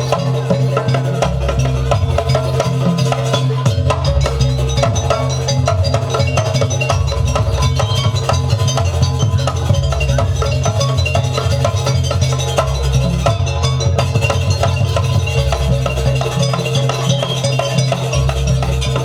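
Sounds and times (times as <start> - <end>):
deep bass: 0.0 - 19.0
drums and tuned percussion: 0.0 - 19.0.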